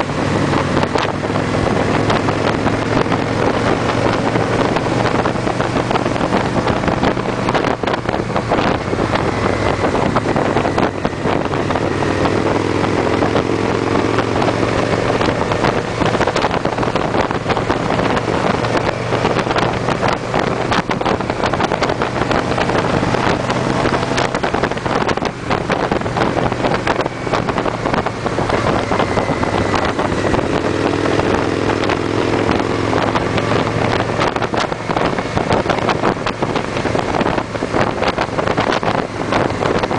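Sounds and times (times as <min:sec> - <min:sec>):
motorcycle engines droning: 0:00.0 - 0:39.9
wind noise on microphone: 0:00.0 - 0:39.9.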